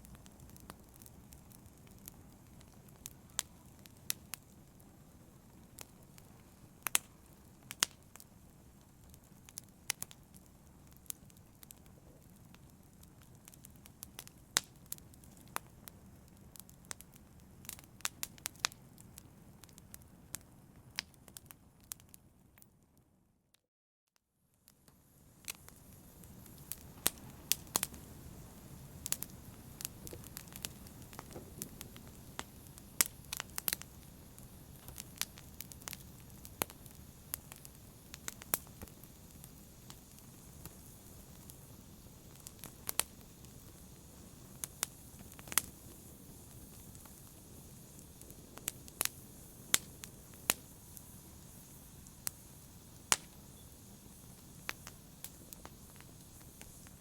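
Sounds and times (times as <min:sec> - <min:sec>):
wood fire crackling: 0:00.0 - 0:22.7, 0:24.7 - 0:57.0.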